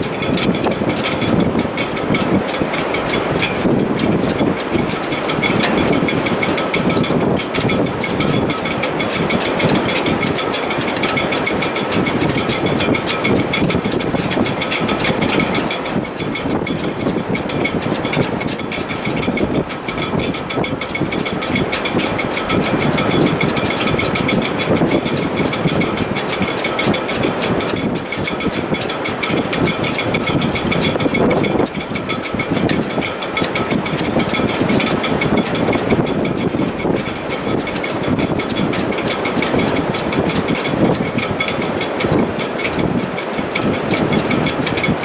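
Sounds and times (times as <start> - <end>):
strong wind rushing in rigging: 0.0 - 45.0.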